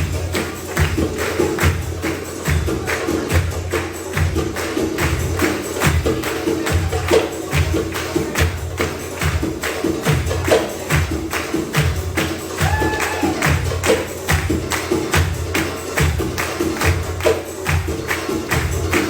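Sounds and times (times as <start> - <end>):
goblet drum rhythm: 0.0 - 19.0.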